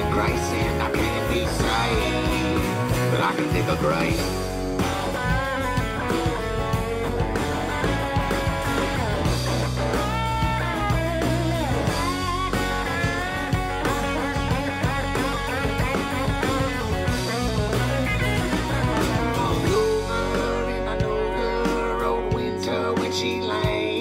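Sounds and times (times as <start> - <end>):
instrumental rock guitar: 0.0 - 24.0.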